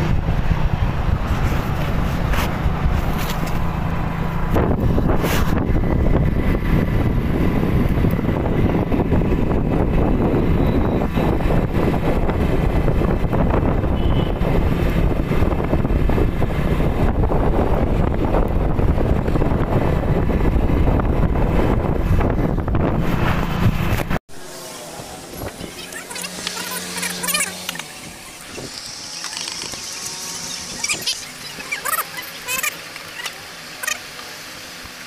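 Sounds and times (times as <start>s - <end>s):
wind rushing on microphone: 0.0s - 24.2s, 24.9s - 32.6s
motorcycle engine: 0.0s - 34.4s.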